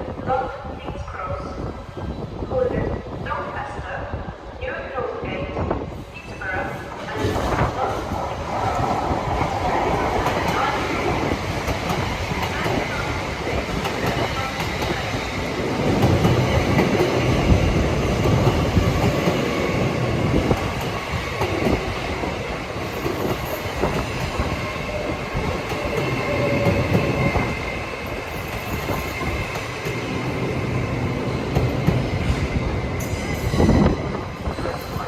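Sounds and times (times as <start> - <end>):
train wheels rumbling: 5.8 - 35.0.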